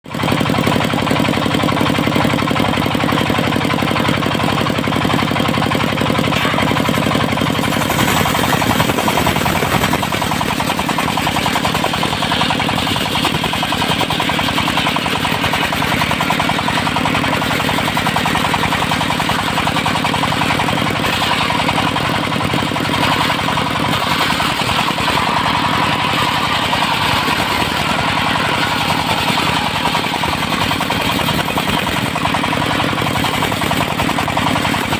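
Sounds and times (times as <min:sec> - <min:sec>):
engine-driven sawmill running: 0:00.0 - 0:34.9.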